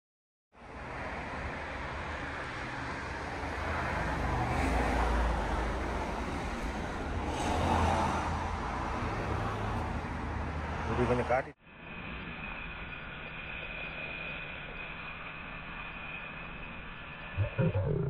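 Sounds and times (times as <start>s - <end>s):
road traffic rumble: 0.6s - 18.0s.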